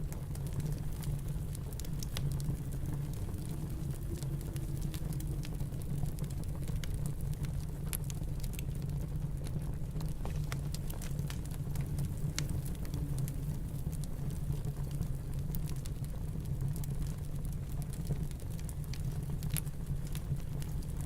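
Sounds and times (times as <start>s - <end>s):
fire popping: 0.0s - 21.0s
wood fire crackling: 0.0s - 21.0s.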